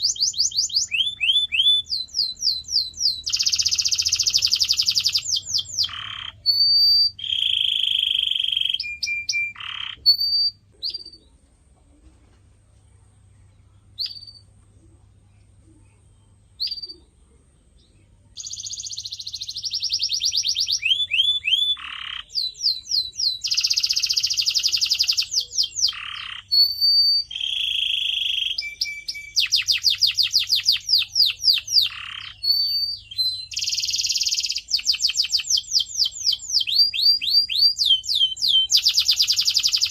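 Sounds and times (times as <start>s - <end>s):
canary singing: 0.0s - 11.8s, 13.3s - 39.9s.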